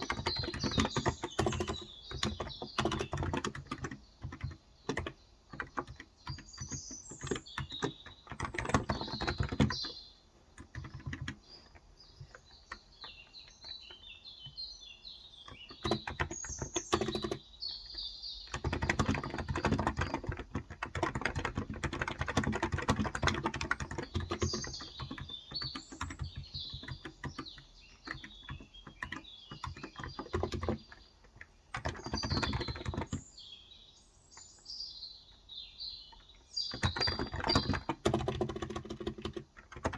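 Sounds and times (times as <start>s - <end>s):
keyboard typing: 0.0s - 14.6s, 15.4s - 33.2s, 36.7s - 39.9s
small birds chirping: 0.0s - 39.9s.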